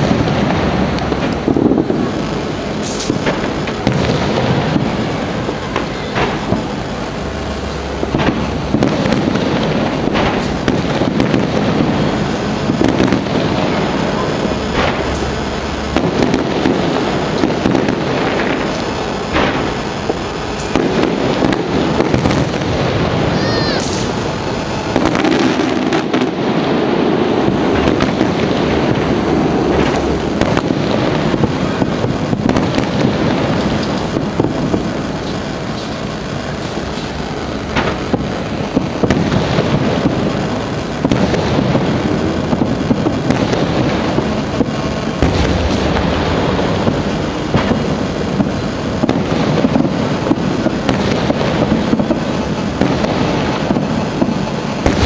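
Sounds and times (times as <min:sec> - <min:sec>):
fireworks crackling: 0:00.0 - 0:55.0
heavy firework bangs: 0:00.0 - 0:55.0.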